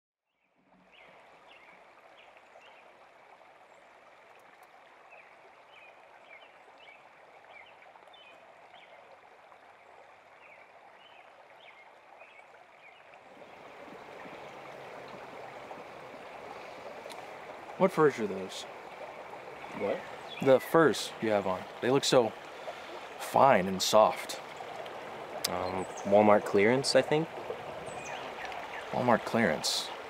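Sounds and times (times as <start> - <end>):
running water: 0.6 - 30.0.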